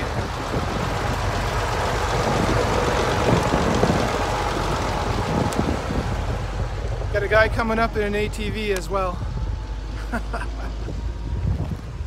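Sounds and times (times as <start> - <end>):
tractor engine passing: 0.0 - 12.0.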